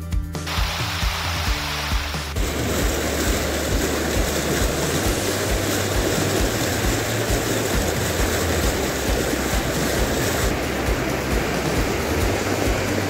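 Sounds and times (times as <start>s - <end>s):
rush of falling water: 0.5s - 13.0s.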